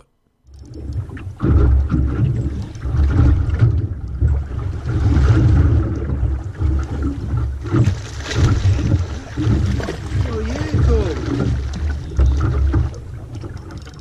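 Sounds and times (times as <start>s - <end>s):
water sloshing against boat hull: 0.5s - 14.0s
fish splashing at surface: 0.6s - 13.8s.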